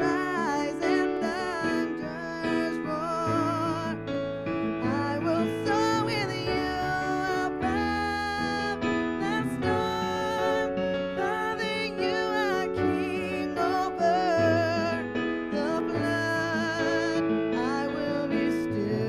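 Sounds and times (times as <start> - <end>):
woman singing worship song: 0.0 - 4.0, 4.8 - 19.0
digital piano chords: 0.0 - 19.0.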